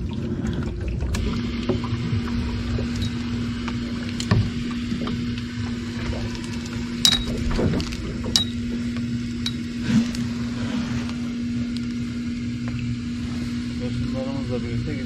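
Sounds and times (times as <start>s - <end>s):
electric motor humming: 1.0s - 15.0s.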